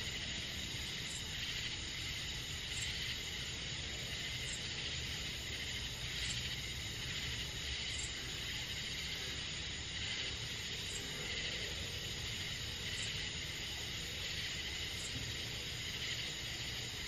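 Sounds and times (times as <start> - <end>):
crickets and insects trilling: 0.0 - 17.0.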